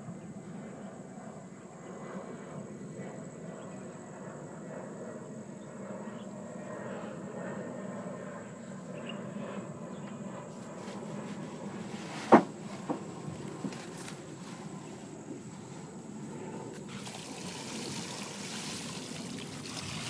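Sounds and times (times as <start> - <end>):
outdoor background rumble: 2.6 - 20.0.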